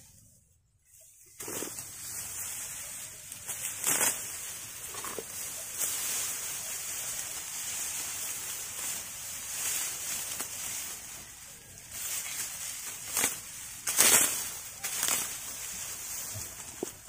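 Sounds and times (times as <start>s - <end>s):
dry straw rustling: 0.0s - 17.0s
sickle cutting rice stalks: 0.8s - 17.0s.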